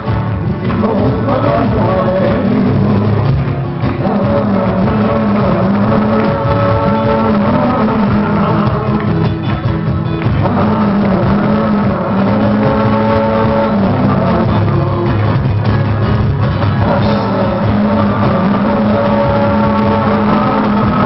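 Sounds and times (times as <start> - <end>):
acoustic guitars: 0.0 - 21.0
hand percussion: 0.0 - 21.0.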